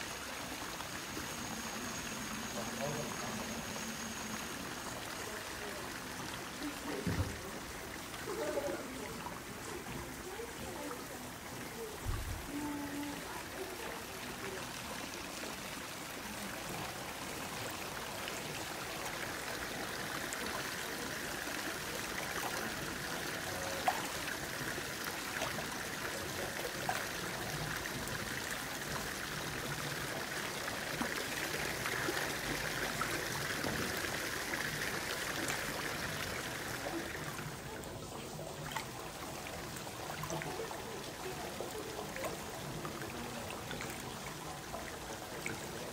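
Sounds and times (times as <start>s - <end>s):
water drips and splashes: 0.0s - 45.9s.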